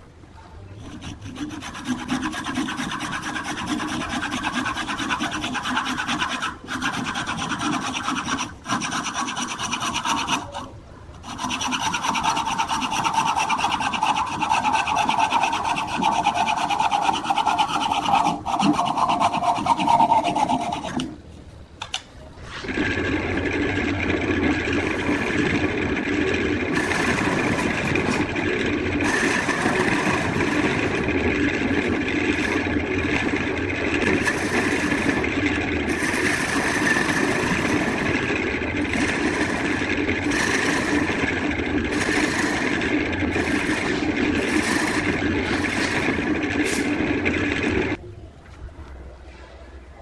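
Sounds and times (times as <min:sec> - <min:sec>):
wood lathe running: 0:00.8 - 0:21.2, 0:22.6 - 0:48.0.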